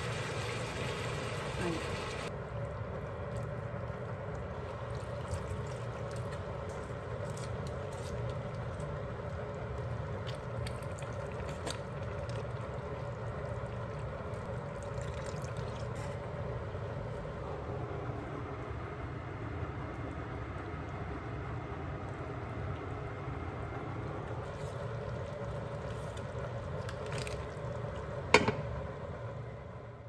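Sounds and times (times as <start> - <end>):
stew simmering and crackling: 0.0 - 29.4
steady low hum: 0.0 - 30.0.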